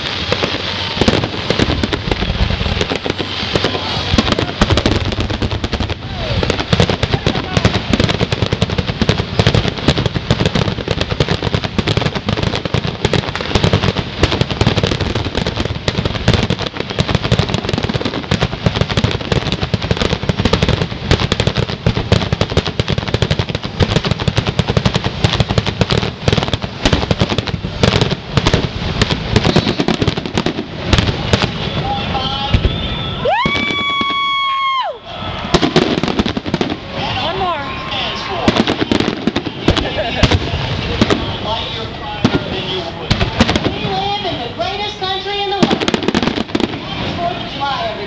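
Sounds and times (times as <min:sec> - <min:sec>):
fireworks barrage: 0:00.0 - 0:48.0.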